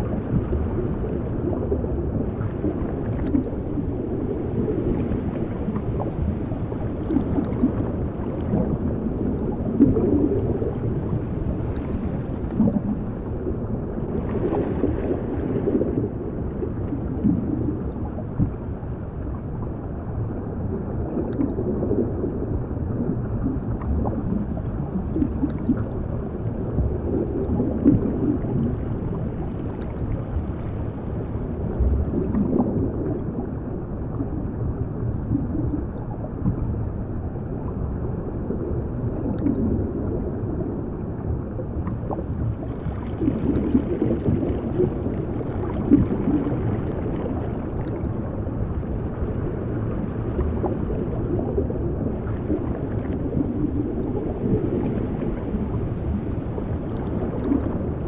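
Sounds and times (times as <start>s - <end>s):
bubbling and gurgling water: 0.0s - 58.0s
muffled underwater rumble: 0.0s - 58.0s.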